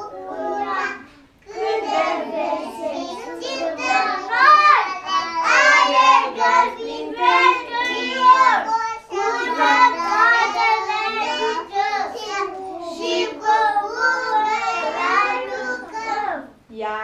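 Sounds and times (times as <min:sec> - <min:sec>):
children singing in unison: 0:00.0 - 0:16.6.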